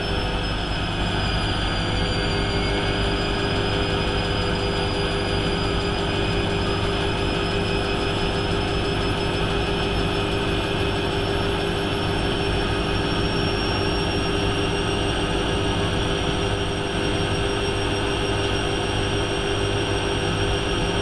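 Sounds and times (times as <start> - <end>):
high whining tones: 0.0 - 21.0.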